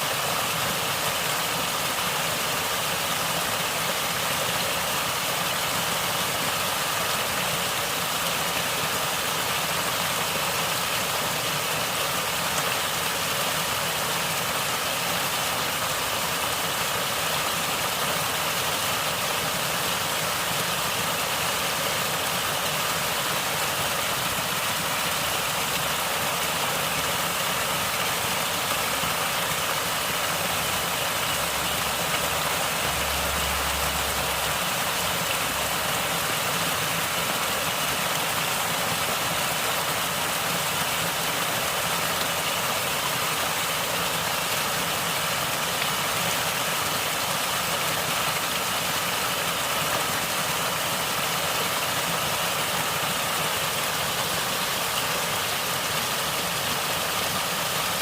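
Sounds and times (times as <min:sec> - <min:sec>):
water flowing and gurgling: 0:00.0 - 0:58.0.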